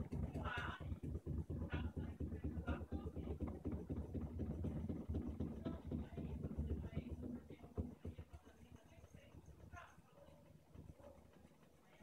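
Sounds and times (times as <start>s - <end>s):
washing machine rumbling: 0.0s - 12.0s.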